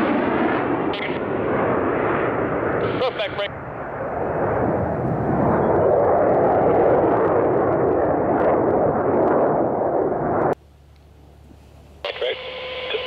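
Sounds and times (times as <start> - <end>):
jet engine roar overhead: 0.0 - 13.0.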